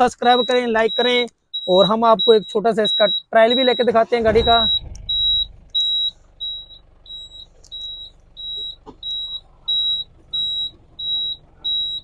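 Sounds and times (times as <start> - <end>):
high-pitched electronic beeps: 0.2 - 12.0.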